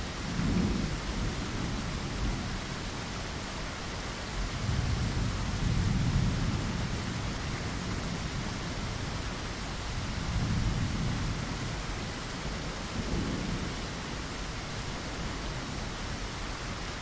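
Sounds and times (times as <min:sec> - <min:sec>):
low thunder rumbling: 0:00.0 - 0:03.1, 0:04.5 - 0:09.2, 0:09.9 - 0:16.3
steady rain hissing: 0:00.0 - 0:17.0.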